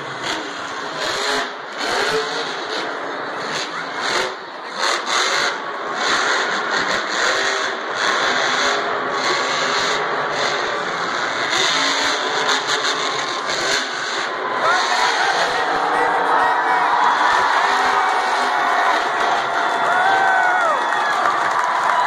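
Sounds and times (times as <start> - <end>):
truck engine revving hard: 0.0 - 22.0.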